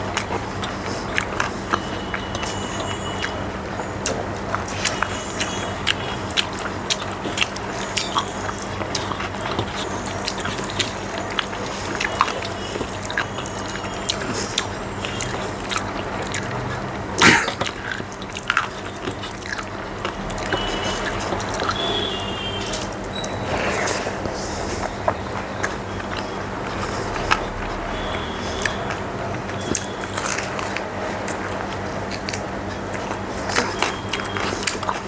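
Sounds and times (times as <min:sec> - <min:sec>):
chewing: 0:00.0 - 0:35.0
low steady hum: 0:00.0 - 0:35.0.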